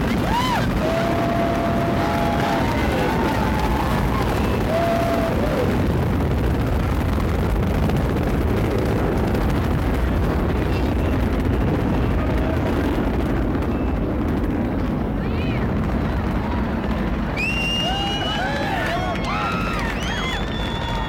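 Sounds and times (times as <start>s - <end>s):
rocket engine rumble: 0.0s - 21.0s.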